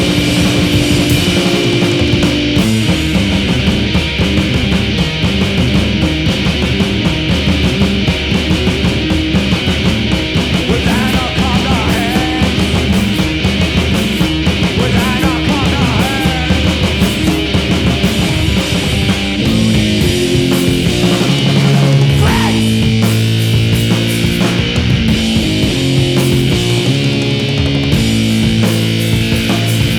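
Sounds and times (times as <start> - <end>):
distorted noise rock: 0.0 - 29.9.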